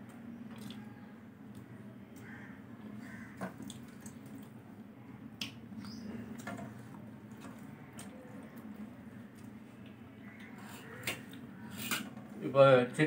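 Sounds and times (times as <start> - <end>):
man chewing food: 0.0 - 11.7
low steady hum: 0.0 - 13.0.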